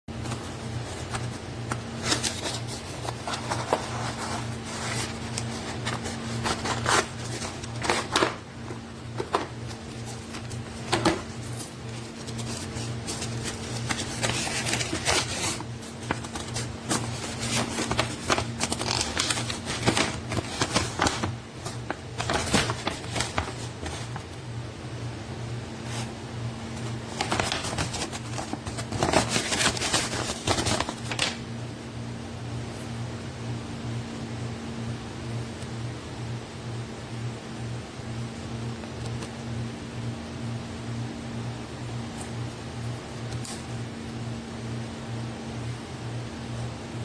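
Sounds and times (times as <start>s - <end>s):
steady low hum: 0.1s - 47.0s.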